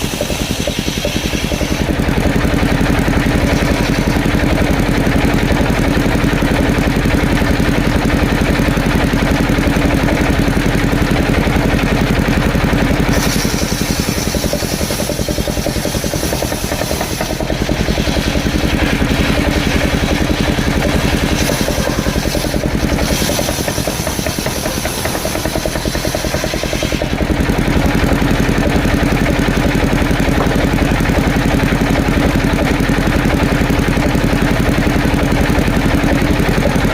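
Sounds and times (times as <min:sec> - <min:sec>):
wood saw engine running: 0:00.0 - 0:36.9.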